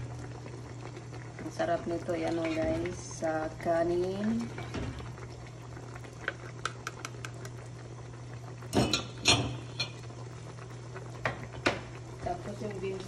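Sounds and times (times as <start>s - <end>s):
sauce bubbling: 0.0s - 13.0s.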